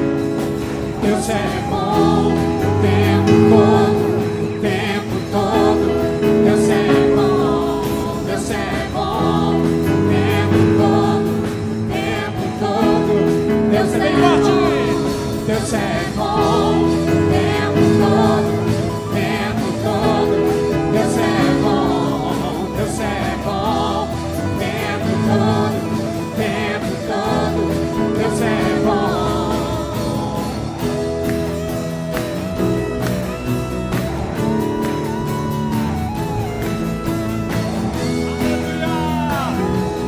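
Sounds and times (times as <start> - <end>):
people singing: 0.0 - 40.0
worship band playing gospel: 0.0 - 40.0.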